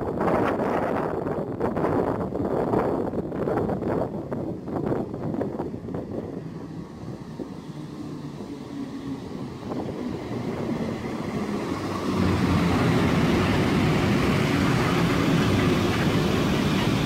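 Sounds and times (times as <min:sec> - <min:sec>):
train wheel and running noise: 0:00.0 - 0:17.0.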